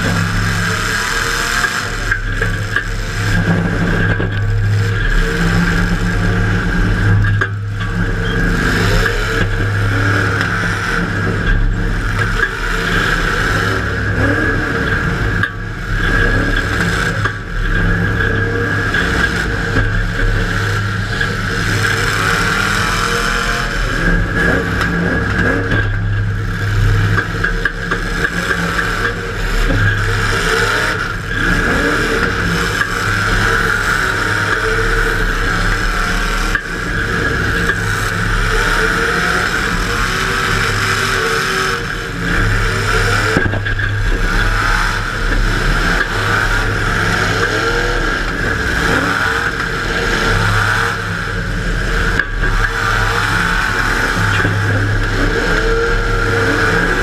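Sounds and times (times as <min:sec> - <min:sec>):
car engine revving: 0:00.0 - 0:57.0
clatter: 0:00.0 - 0:57.0.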